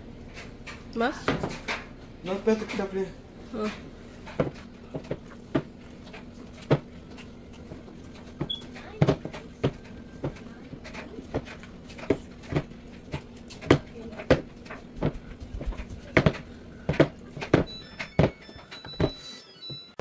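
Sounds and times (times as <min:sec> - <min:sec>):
dough kneading thumps: 0:00.3 - 0:20.0.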